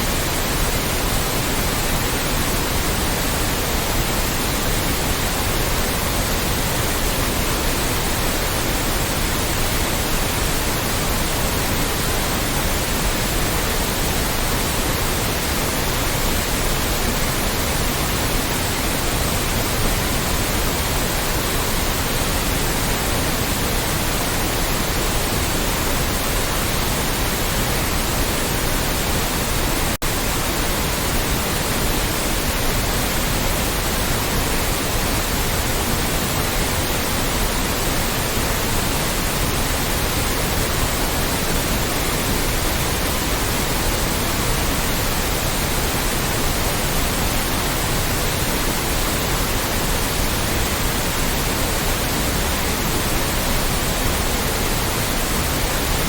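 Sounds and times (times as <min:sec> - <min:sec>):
loud white noise hiss: 0:00.0 - 0:56.0.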